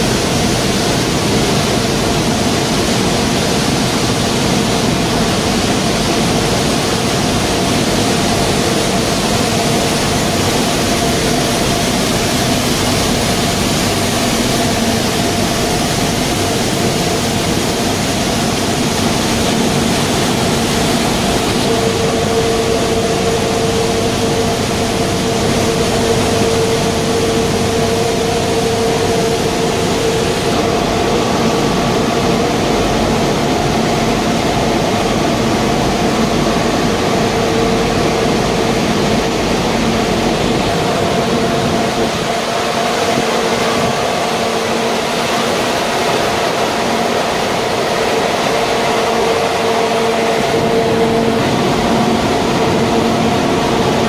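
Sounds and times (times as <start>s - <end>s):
grinding mills droning: 0.0s - 54.0s.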